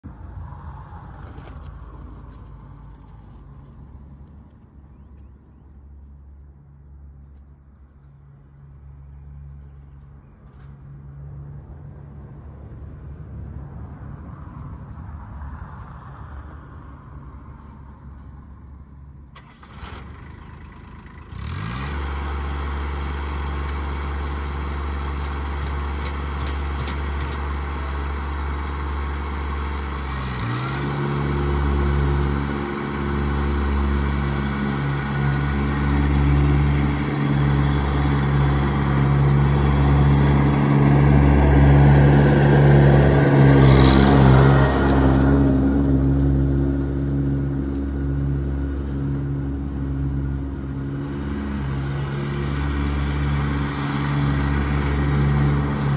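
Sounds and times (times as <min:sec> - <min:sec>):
tractor engine running and revving: 0:00.0 - 0:55.9.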